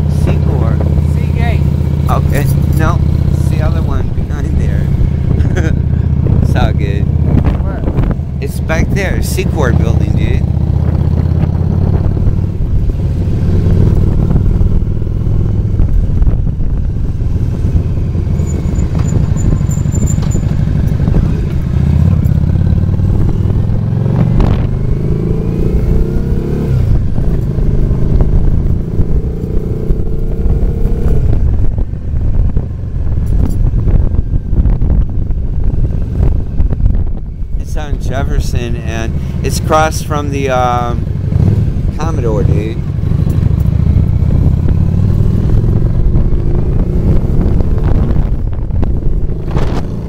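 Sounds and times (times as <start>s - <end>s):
motorcycle engine running: 0.0s - 50.0s
wind rushing over microphone: 0.0s - 50.0s.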